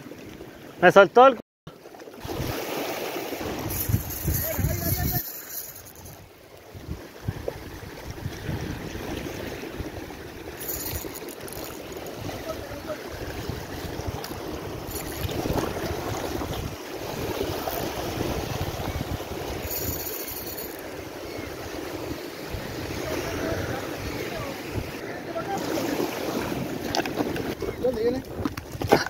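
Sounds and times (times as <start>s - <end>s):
ocean waves washing over rocks: 2.1s - 29.0s.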